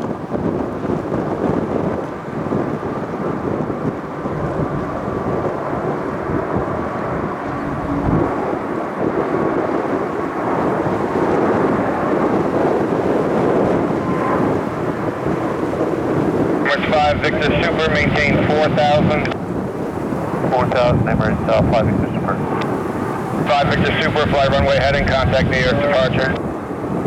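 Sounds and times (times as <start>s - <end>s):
jet airliner taking off: 0.0s - 27.0s.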